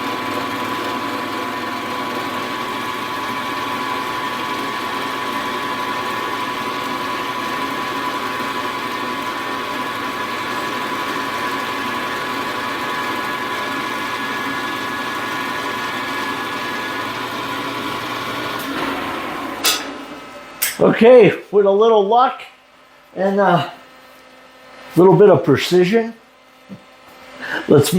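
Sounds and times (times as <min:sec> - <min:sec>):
milling machine whine: 0:00.0 - 0:23.8.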